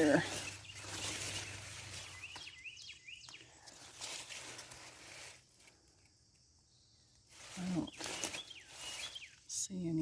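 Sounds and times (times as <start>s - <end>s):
bird chirping: 0.0s - 4.7s, 6.3s - 10.0s
leaves rustling and crackling: 0.0s - 10.0s.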